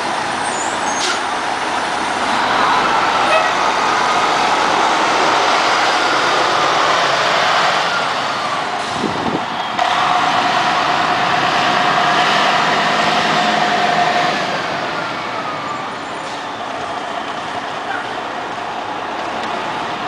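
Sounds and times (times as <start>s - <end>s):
bus diesel engine pulling away: 0.0s - 20.0s.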